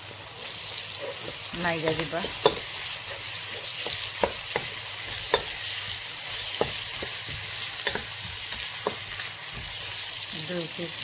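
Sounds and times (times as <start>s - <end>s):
onions sizzling in oil: 0.0s - 11.0s
wooden spatula stirring: 0.3s - 10.3s.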